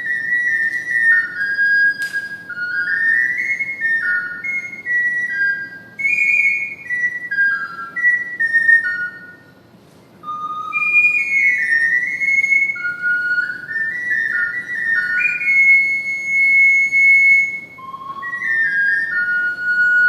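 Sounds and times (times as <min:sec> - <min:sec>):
ocarina playing slow melody: 0:00.0 - 0:20.0.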